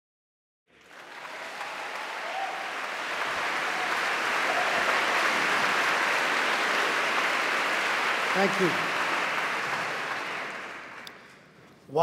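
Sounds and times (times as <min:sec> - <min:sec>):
audience applause: 0:00.7 - 0:11.6.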